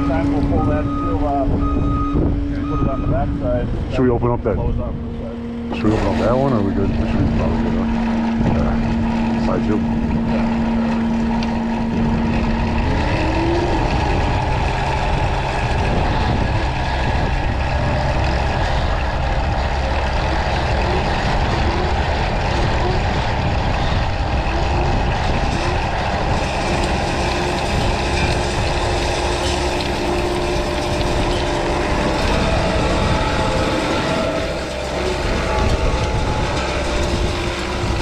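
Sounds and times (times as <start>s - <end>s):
diesel engine under load: 0.0s - 38.0s
hydraulic rotor through soil: 0.0s - 38.0s
steady machine tone: 0.0s - 38.0s.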